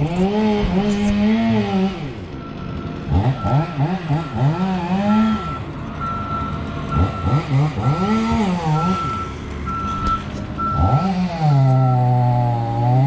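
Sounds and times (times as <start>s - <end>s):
diesel engine revving: 0.0s - 13.0s
reversing alarm beeping: 2.3s - 13.0s.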